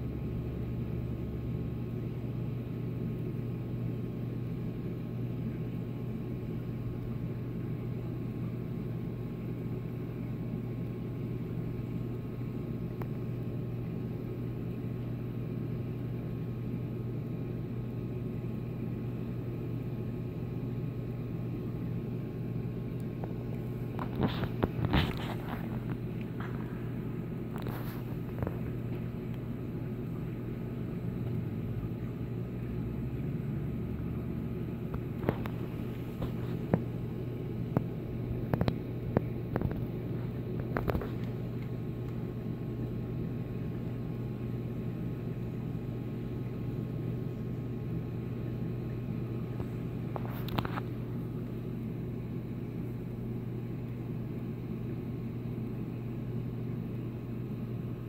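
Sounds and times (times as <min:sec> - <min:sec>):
aquarium pumps humming: 0:00.0 - 0:58.0.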